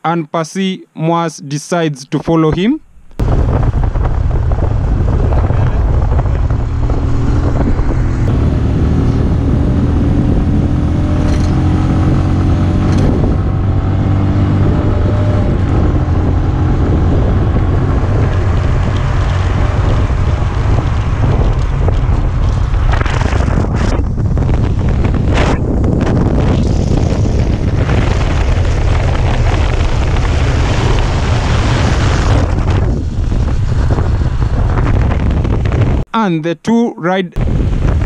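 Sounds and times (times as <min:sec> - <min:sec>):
wind buffeting microphone: 0:02.5 - 0:36.1, 0:37.4 - 0:38.0
motorcycle engine running: 0:03.2 - 0:36.0.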